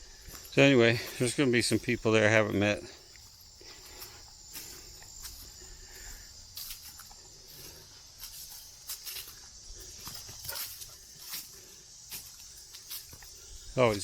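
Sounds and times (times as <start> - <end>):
crickets chirping: 0.0 - 14.0
footsteps crunching on a trail: 0.0 - 14.0.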